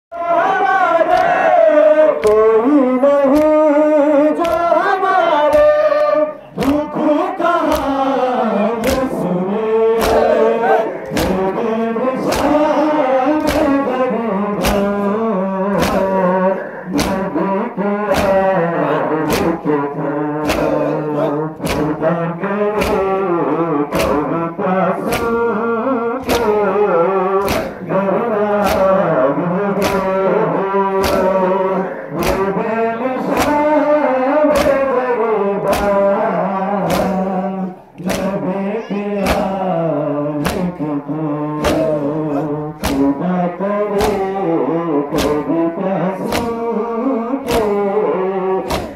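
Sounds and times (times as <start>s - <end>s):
men chanting together: 0.1s - 48.9s
chest-beating slaps: 2.2s - 2.5s, 3.2s - 3.7s, 4.4s - 4.7s, 5.4s - 7.0s, 7.6s - 43.3s, 43.9s - 48.0s, 48.6s - 48.9s.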